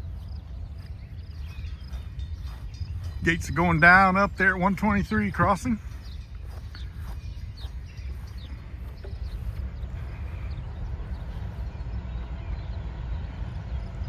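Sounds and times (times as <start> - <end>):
bird chirps: 0.0 - 14.0
steady low rumble: 0.0 - 14.0.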